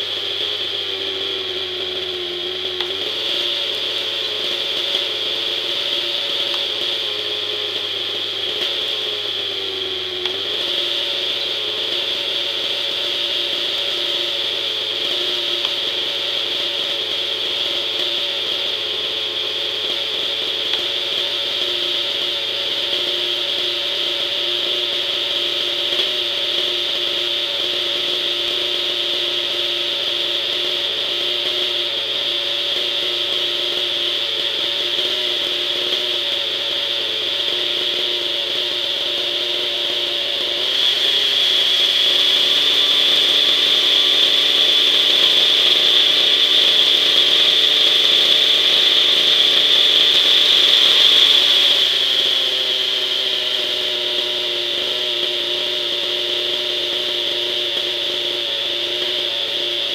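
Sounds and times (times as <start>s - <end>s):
model helicopter engine idling: 0.0s - 59.9s.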